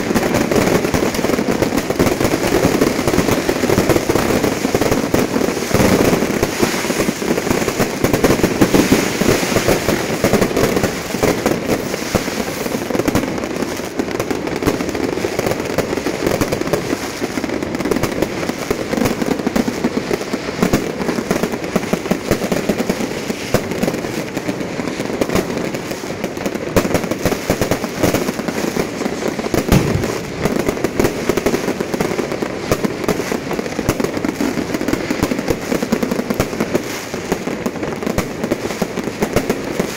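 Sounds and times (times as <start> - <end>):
fireworks crackling pops: 0.0 - 39.9.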